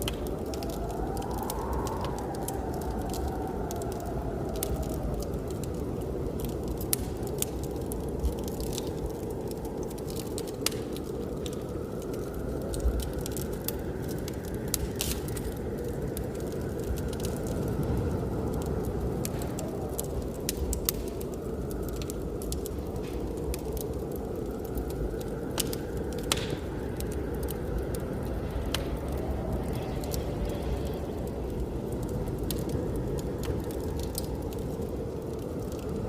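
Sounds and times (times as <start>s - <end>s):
blizzard wind: 0.0s - 36.0s
wood fire crackling: 0.0s - 36.0s.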